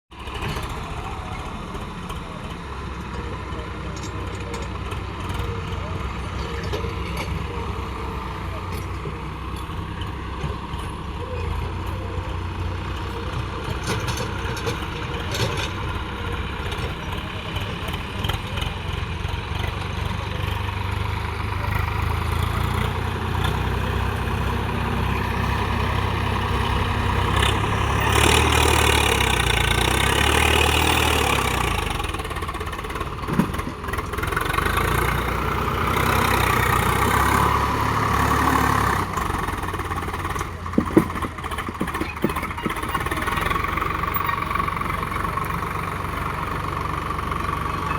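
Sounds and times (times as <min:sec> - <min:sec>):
tractor diesel engine running: 0:00.1 - 0:47.9.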